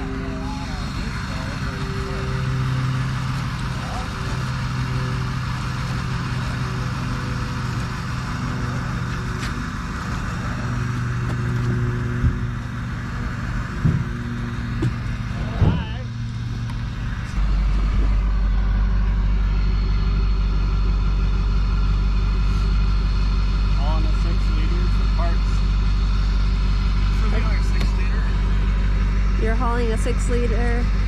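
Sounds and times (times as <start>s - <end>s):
deep engine rumble: 0.0s - 31.0s
vehicle engine humming: 0.0s - 31.0s.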